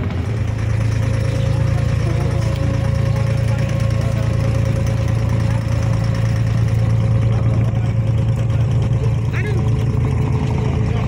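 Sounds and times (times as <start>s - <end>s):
boat diesel engine idling: 0.0s - 11.0s.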